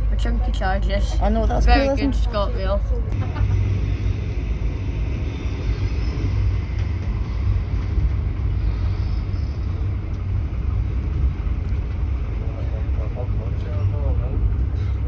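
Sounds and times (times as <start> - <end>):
train rumbling in motion: 0.0 - 15.0.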